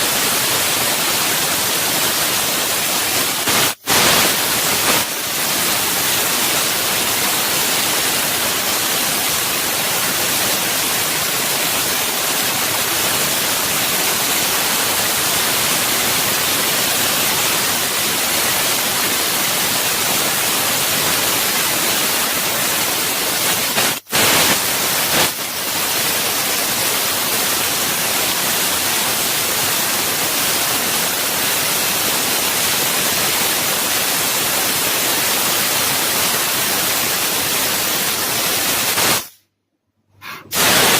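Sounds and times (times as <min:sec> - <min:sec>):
laser cutter gas jet hissing: 0:00.0 - 0:39.4, 0:40.2 - 0:40.9.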